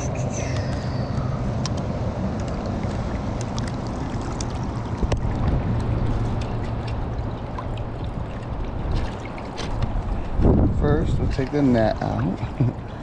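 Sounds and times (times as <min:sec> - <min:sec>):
river water rushing and gurgling: 0:00.0 - 0:10.8.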